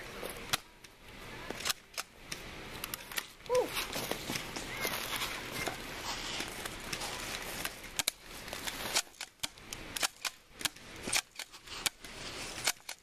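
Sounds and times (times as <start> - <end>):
rustling noise: 0.0 - 13.0.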